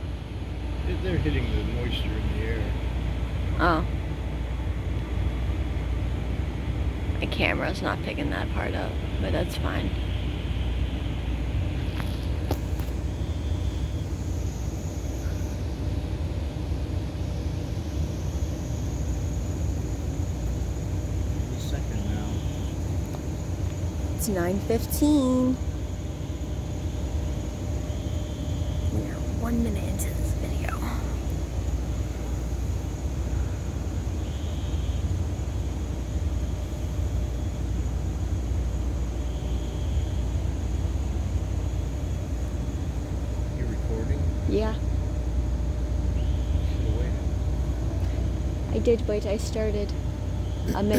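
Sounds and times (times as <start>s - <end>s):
low outdoor rumble: 0.0s - 50.9s.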